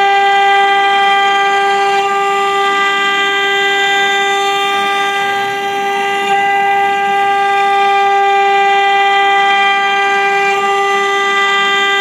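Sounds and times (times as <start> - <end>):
router spindle high whine: 0.0 - 12.0.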